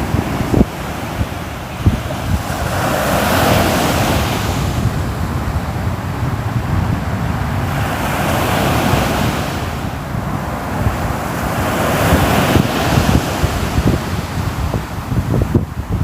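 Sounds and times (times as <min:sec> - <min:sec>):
sea waves breaking on shore: 0:00.0 - 0:16.0
wind rumbling on microphone: 0:00.0 - 0:16.0.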